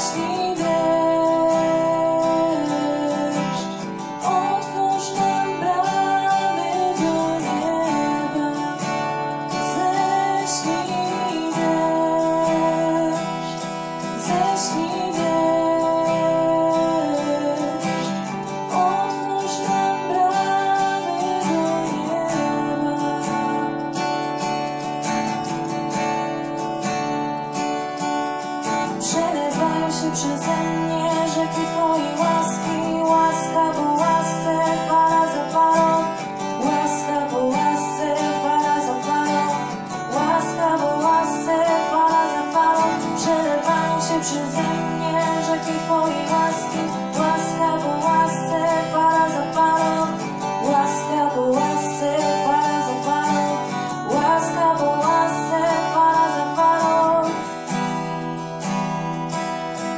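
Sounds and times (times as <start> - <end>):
acoustic guitar strumming: 0.0 - 59.9
woman singing: 0.0 - 59.9.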